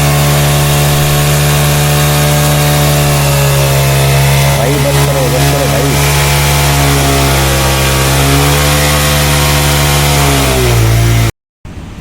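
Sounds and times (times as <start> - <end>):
motorcycle engine revving high: 0.0 - 11.3.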